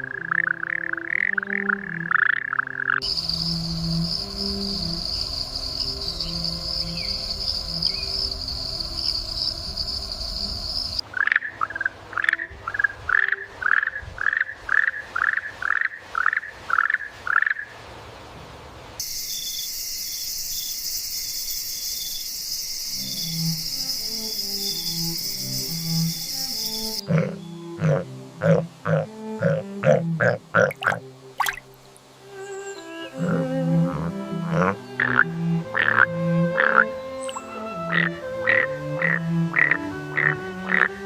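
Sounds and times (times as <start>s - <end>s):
hissing insect drone: 0.0s - 13.4s, 19.0s - 41.0s
insect buzz: 0.0s - 14.4s, 19.0s - 41.0s
short loud insect calls: 0.0s - 17.6s, 19.0s - 29.6s, 34.5s - 41.0s.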